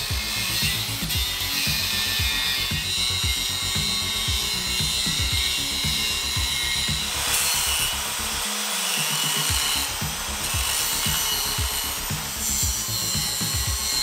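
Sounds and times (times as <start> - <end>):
angle grinder grinding steel: 0.0 - 14.0
background music with beat: 0.0 - 14.0.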